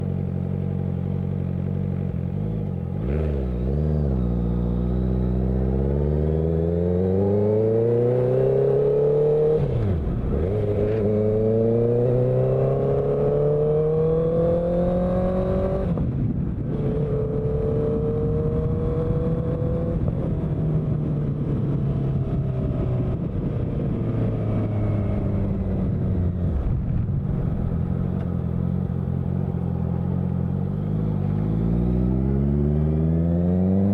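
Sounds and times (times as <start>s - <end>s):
motorcycle engine revving: 0.0s - 16.1s, 16.8s - 20.3s, 24.5s - 33.9s.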